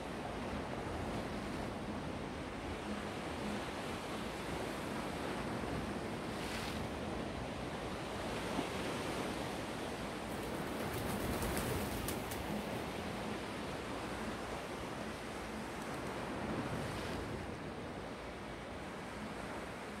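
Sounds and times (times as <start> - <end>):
waves breaking on shore: 0.0 - 20.0.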